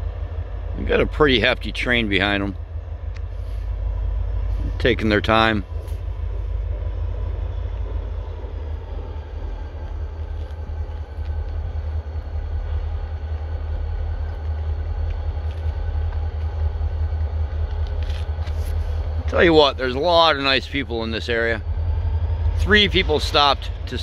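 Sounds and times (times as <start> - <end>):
distant freight train rumble: 0.0 - 24.0.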